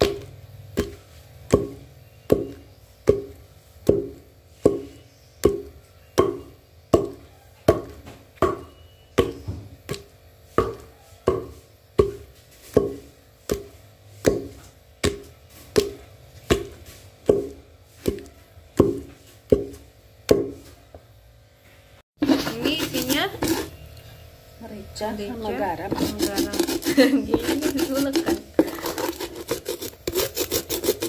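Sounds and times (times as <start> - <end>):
wooden pestle pounding in mortar: 0.0 - 20.7, 22.2 - 23.8, 25.8 - 31.0.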